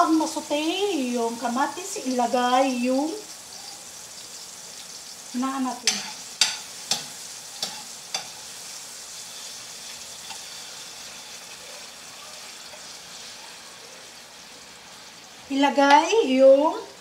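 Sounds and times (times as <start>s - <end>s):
tomatoes sizzling in hot oil: 0.0s - 17.0s.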